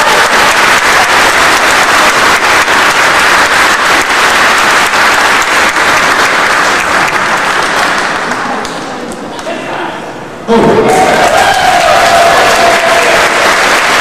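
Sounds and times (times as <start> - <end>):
crowd applauding: 0.0 - 8.9, 10.9 - 14.0.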